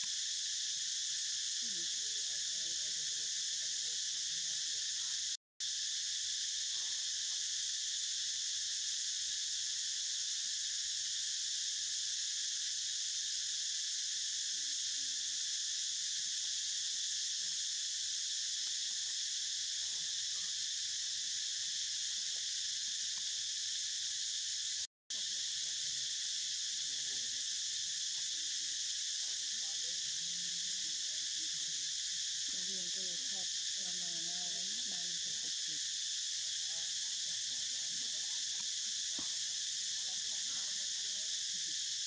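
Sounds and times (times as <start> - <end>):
insects chorus shrill hiss: 0.0 - 42.0.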